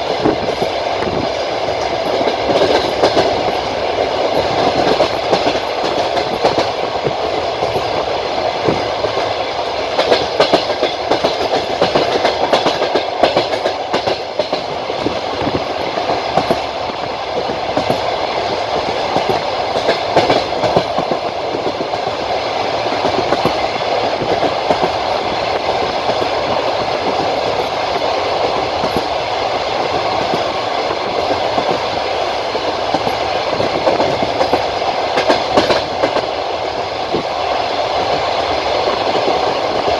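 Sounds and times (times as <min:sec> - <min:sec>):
train wheels rumbling on rails: 0:00.0 - 0:39.9
wheels clicking over rail joints: 0:00.0 - 0:39.9.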